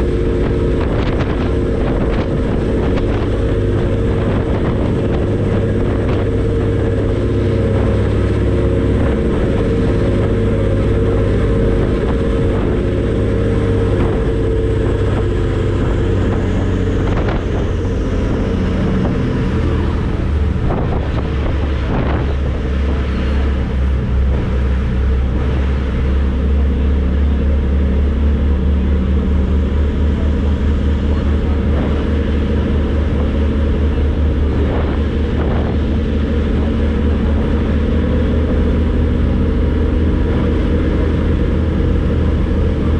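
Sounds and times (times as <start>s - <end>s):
ferry engines droning: 0.0s - 42.9s
rushing noise: 0.0s - 42.9s.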